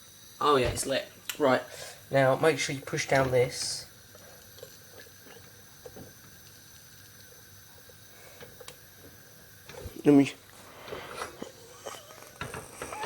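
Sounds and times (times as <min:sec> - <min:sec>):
gas stove burner hissing: 0:00.0 - 0:13.0.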